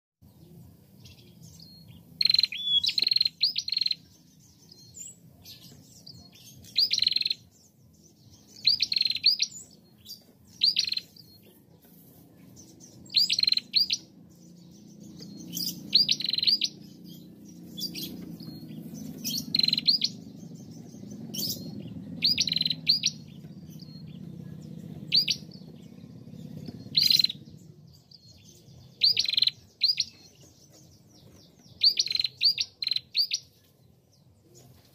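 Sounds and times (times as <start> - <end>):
bird chirping: 0.2 - 34.9
faint low hum: 0.2 - 34.9.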